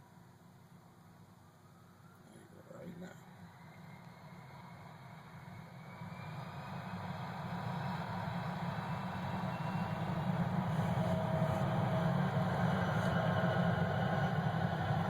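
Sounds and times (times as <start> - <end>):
jet engines at takeoff: 0.1 - 15.0.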